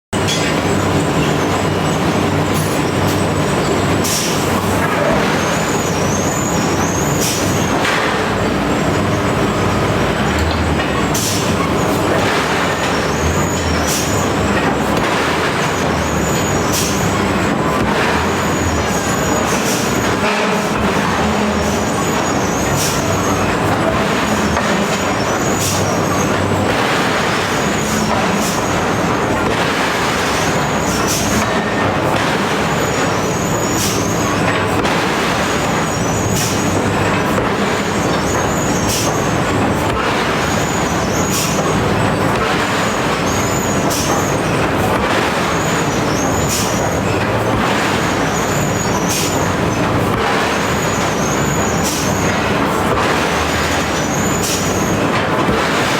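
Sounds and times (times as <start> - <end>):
machinery drone: 0.2 - 55.9.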